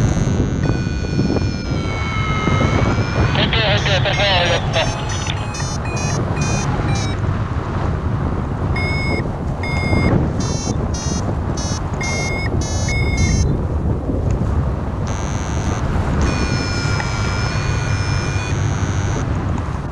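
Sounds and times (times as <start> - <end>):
variometer beeping: 0.0 - 7.2, 8.7 - 13.5, 15.0 - 19.4
wind rush on microphone: 0.0 - 19.9.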